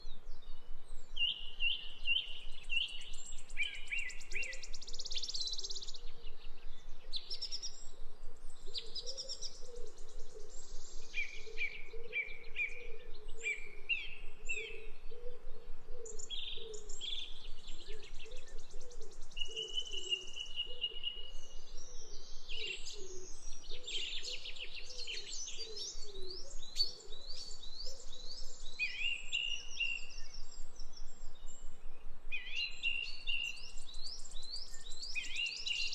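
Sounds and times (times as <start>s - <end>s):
songbirds chirping and singing: 0.0s - 35.9s.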